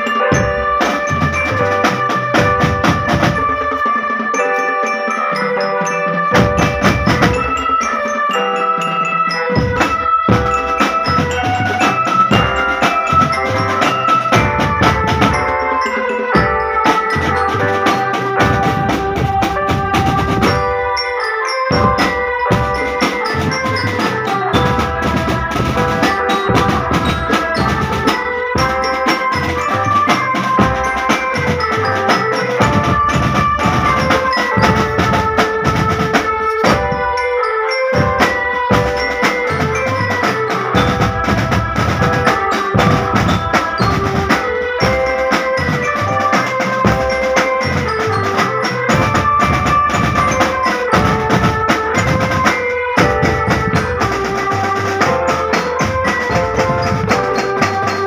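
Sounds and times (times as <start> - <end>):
melody on pitched instruments: 0.0 - 58.0
snare drums: 0.0 - 58.0
bass drums beating: 0.4 - 3.8, 6.4 - 7.6, 9.6 - 15.8, 16.4 - 21.0, 21.7 - 37.2, 38.0 - 58.0.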